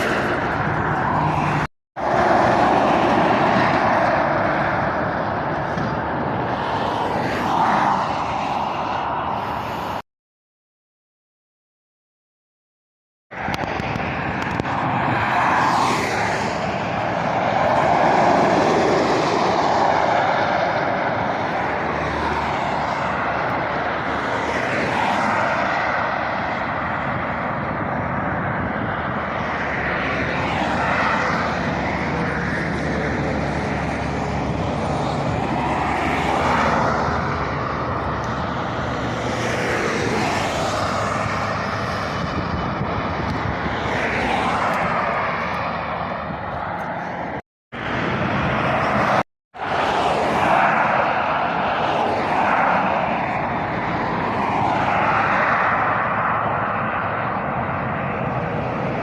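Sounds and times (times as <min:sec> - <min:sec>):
traffic rush of tyres and engines: 0:00.0 - 0:10.1, 0:13.3 - 0:59.0.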